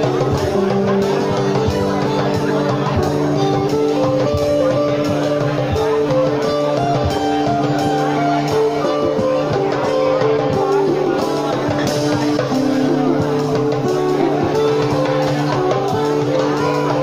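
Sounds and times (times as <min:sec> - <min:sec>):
guitar: 0:00.0 - 0:17.0
live band playing: 0:00.0 - 0:17.0.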